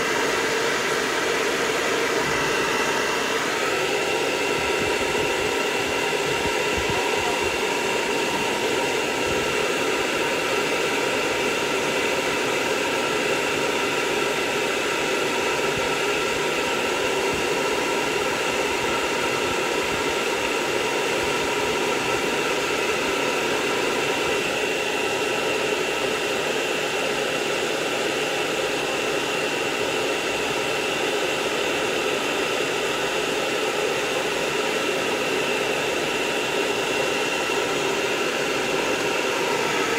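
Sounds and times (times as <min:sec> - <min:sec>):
blow dryer running: 0:00.0 - 0:39.9.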